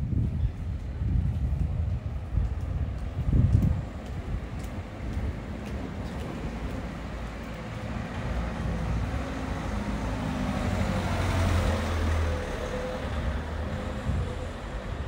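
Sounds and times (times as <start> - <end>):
street traffic noise: 0.0 - 15.0
vehicle engine rumble passing: 1.5 - 15.0.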